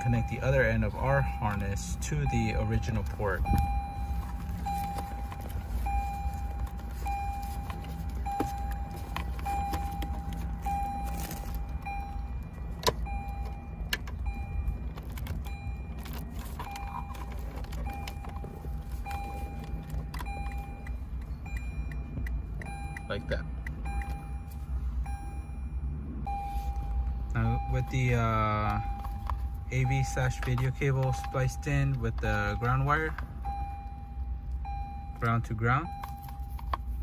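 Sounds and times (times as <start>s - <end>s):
car warning chime beeping: 0.0s - 37.0s
low steady hum: 0.0s - 37.0s.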